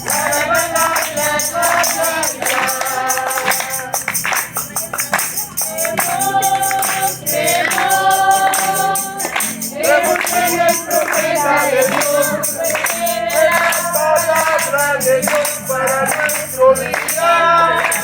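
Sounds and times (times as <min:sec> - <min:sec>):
group singing gospel chorus: 0:00.0 - 0:04.4, 0:05.6 - 0:18.0
tambourine beat: 0:00.0 - 0:18.0.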